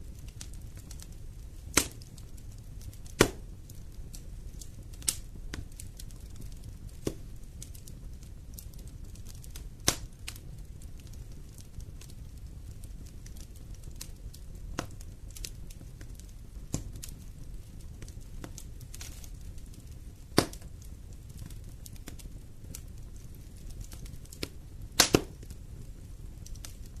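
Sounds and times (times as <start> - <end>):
low fire rumble: 0.0 - 27.0
wood fire crackling and popping: 0.0 - 27.0.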